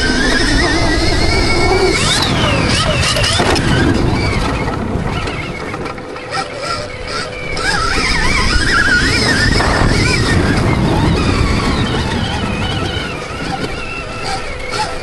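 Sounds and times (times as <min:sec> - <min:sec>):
motocross bike engine revving: 0:00.0 - 0:15.0
wind rumble on microphone: 0:00.0 - 0:15.0.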